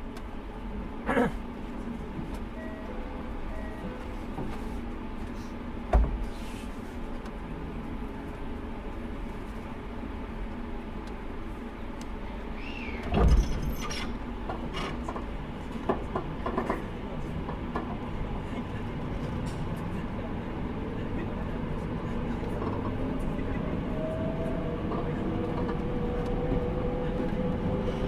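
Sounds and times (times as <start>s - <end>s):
train car hum: 0.0s - 28.0s.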